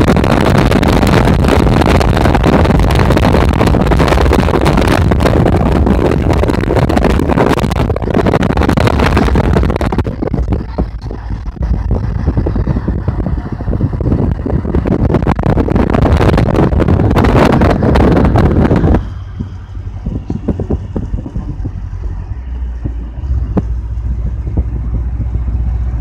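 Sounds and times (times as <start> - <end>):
road and tyre noise: 0.0 - 26.0
wind buffeting microphone: 0.0 - 26.0.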